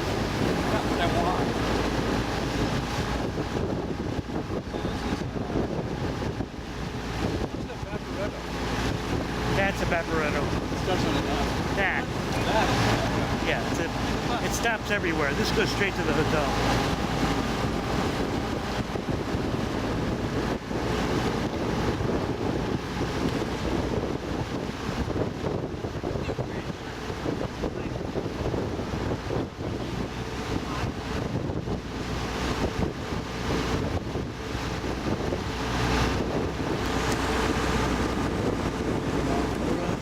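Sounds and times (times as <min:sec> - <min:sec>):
motorboat engine running: 0:00.0 - 0:40.0
water rushing past hull: 0:00.0 - 0:40.0
wind buffeting microphone: 0:00.0 - 0:40.0.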